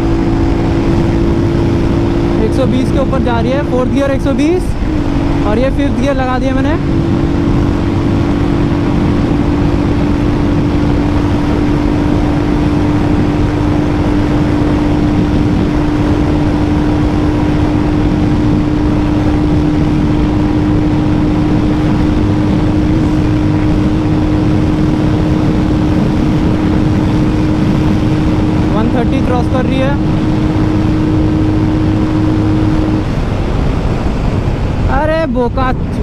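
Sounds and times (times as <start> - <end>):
loud wind rush: 0.0 - 36.0
motorcycle engine at full throttle: 0.0 - 36.0.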